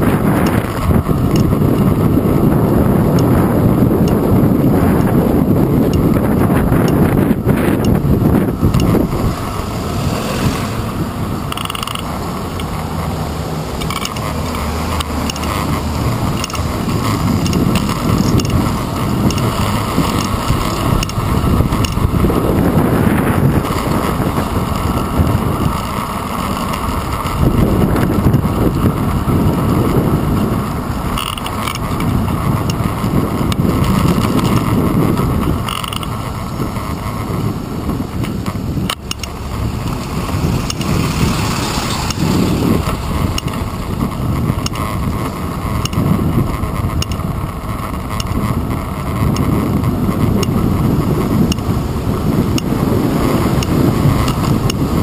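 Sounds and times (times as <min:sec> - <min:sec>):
bike rattling over pavement: 0:00.0 - 0:55.0
city traffic: 0:00.0 - 0:55.0
wind: 0:00.0 - 0:55.0.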